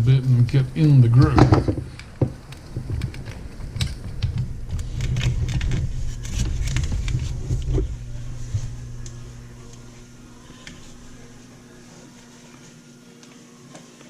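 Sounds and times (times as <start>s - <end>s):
low handling rumble: 0.0s - 13.1s.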